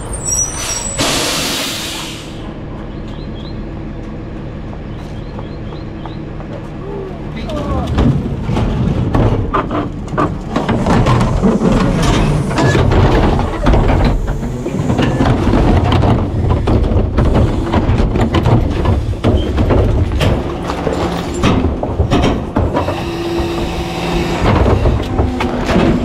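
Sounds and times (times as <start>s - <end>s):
garbage truck engine rumble: 0.0s - 26.0s.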